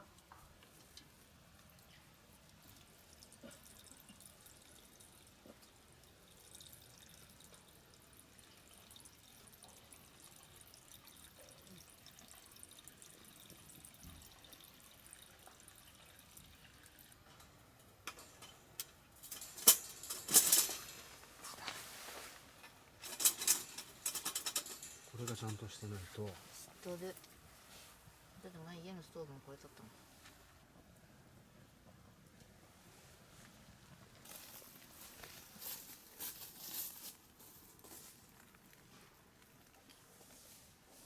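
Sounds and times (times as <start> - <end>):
faint background hiss: 0.0 - 41.0.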